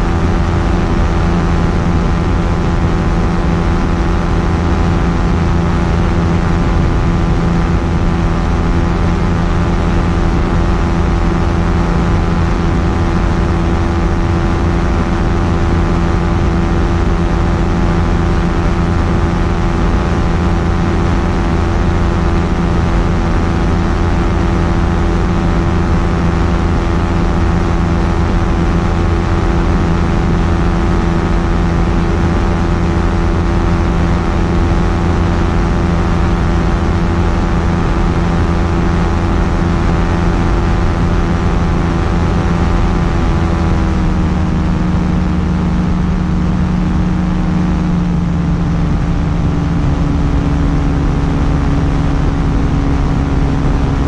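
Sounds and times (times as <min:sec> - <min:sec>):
aircraft engine and propeller humming: 0:00.0 - 0:54.0.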